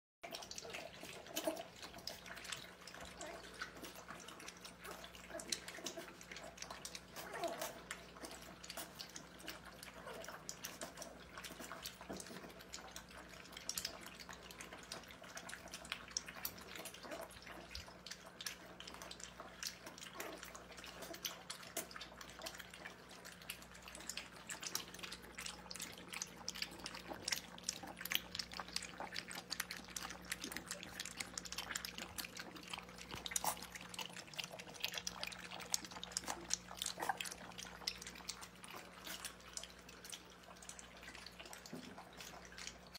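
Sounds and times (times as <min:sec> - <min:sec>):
puppies lapping milk: 0:00.2 - 0:42.9.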